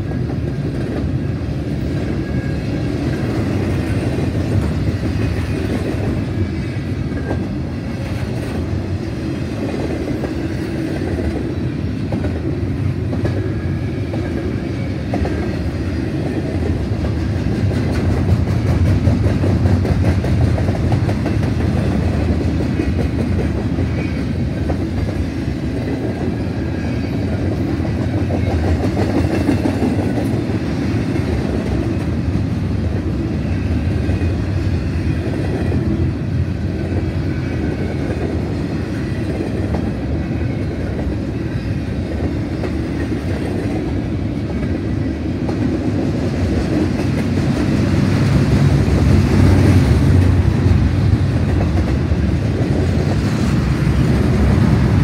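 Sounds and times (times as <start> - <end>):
clickety-clack over rail joints: 0.0 - 55.0
freight train wheels rumbling: 0.0 - 55.0.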